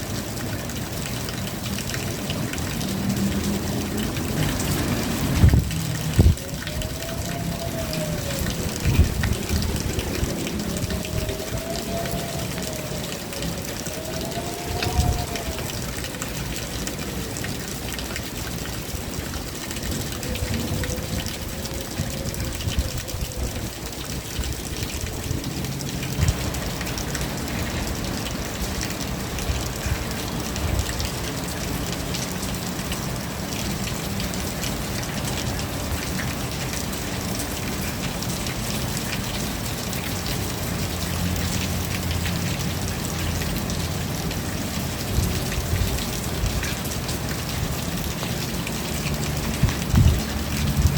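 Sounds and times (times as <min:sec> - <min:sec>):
rain pattering: 0:00.0 - 0:50.9.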